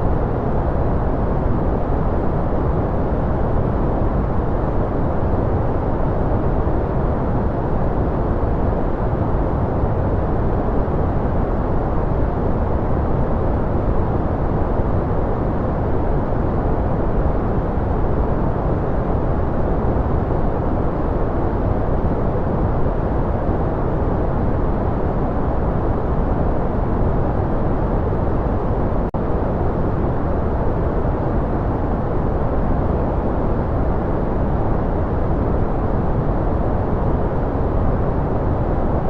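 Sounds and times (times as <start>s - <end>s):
deep white noise: 0.0s - 39.0s.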